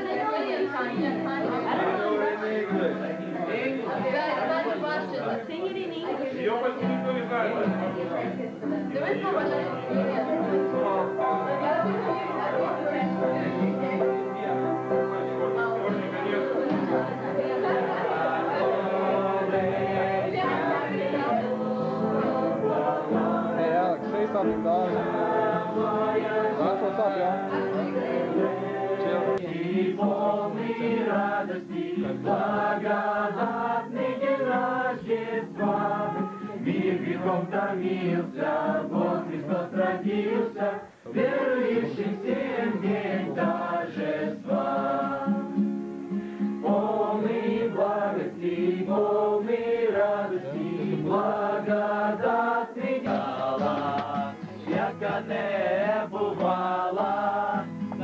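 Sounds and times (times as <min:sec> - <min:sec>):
group singing a carol: 0:00.0 - 0:58.0.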